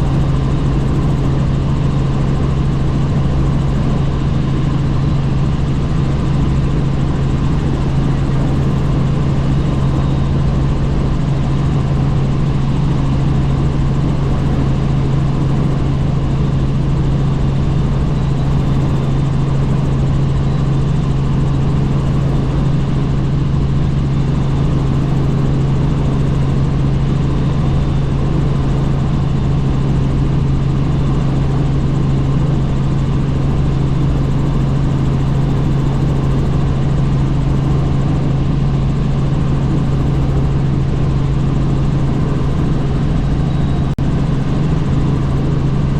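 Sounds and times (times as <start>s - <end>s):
helicopter rotor and engine drone: 0.0s - 45.9s.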